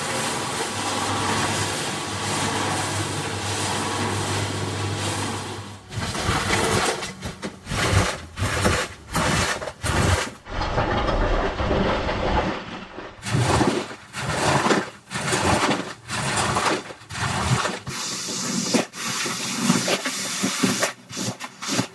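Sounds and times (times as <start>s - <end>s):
squeegee scraping wet rug: 0.0s - 21.9s.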